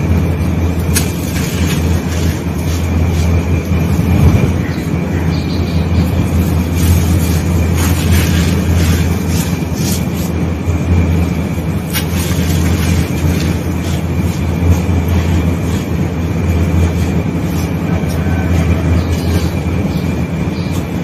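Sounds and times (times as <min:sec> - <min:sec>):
gritty sand crunching and pattering: 0:00.0 - 0:04.5, 0:06.0 - 0:21.0
steady low rumble: 0:00.0 - 0:21.0.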